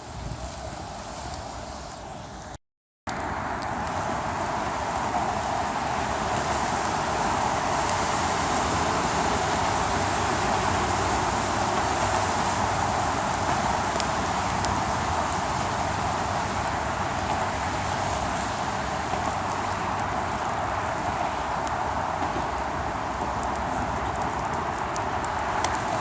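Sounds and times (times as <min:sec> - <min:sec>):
blizzard wind rushing: 0:03.1 - 0:26.0.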